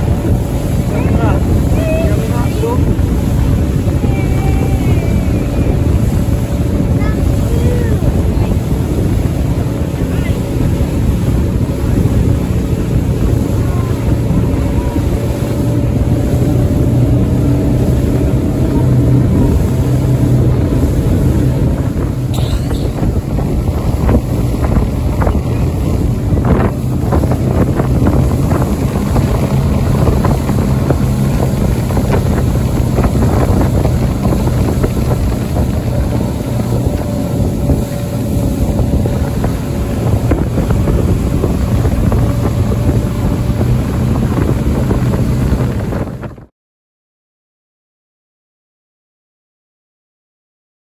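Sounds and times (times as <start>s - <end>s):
outboard engine running: 0.0s - 46.5s
water rushing past hull: 0.0s - 46.5s
wind buffeting microphone: 0.0s - 46.5s.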